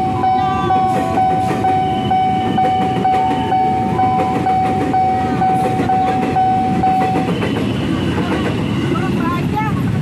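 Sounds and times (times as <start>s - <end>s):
crossing warning bell ringing: 0.0s - 9.5s
train wheels clacking over rail joints: 0.8s - 9.6s.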